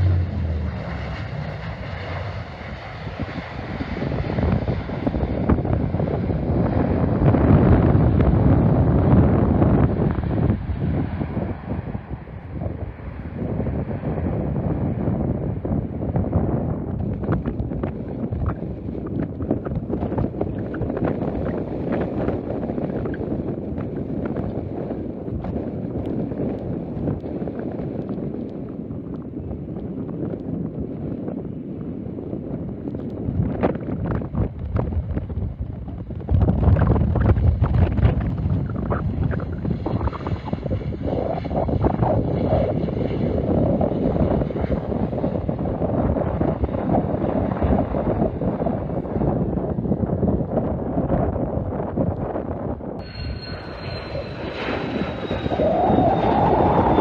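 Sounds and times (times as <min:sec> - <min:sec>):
jet airliner rumble: 0:00.0 - 0:57.0
wind buffeting microphone: 0:00.0 - 0:57.0.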